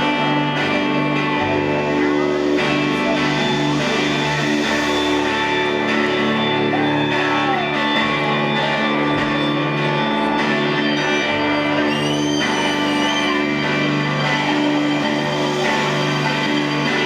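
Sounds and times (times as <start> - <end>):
electric guitar chords: 0.0 - 17.0
rock band playing live: 0.0 - 17.0.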